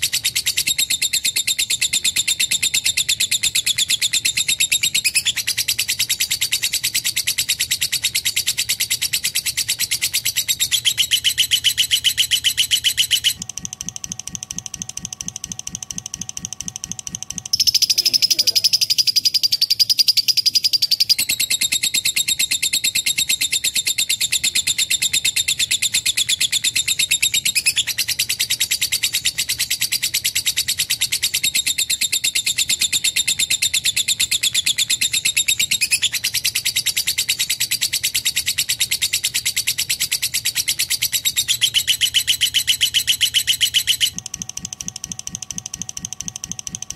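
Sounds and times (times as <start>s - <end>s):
lovebird chattering trill: 0.0s - 46.9s.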